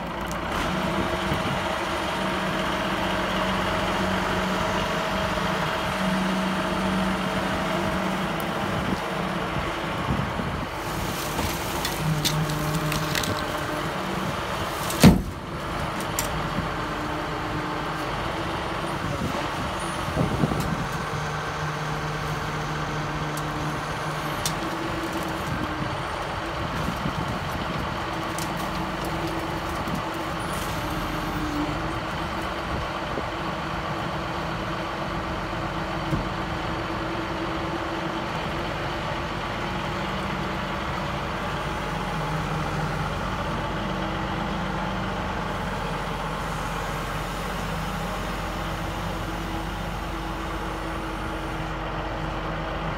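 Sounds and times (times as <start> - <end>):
diesel engine of wheel loader: 0.0 - 52.9.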